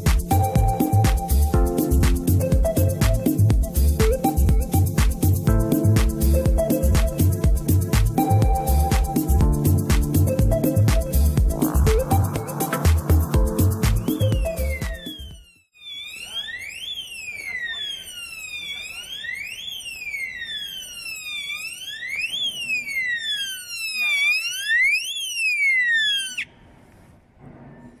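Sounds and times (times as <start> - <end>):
electronic alarm siren wailing: 0.0 - 26.6.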